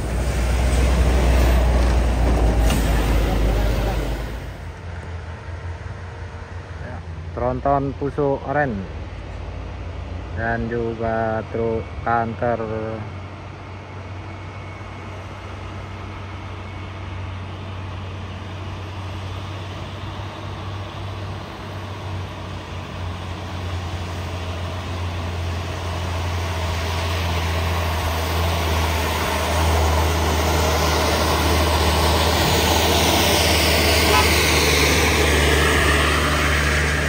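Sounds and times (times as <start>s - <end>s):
truck diesel engines climbing: 0.0s - 37.0s.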